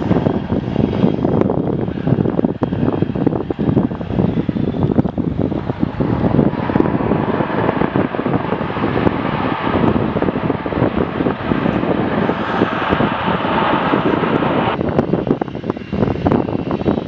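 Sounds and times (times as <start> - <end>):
jet engine noise: 0.0 - 17.0
wind buffeting microphone: 0.0 - 17.0.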